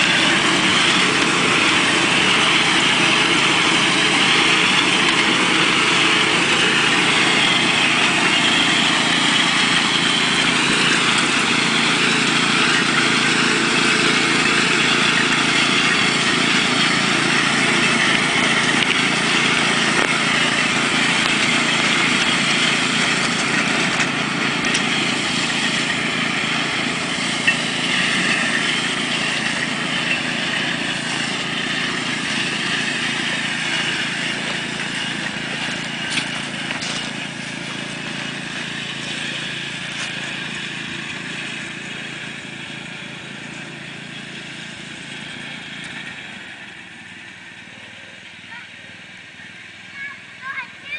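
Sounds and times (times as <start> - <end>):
small train engine running: 0.0 - 50.9.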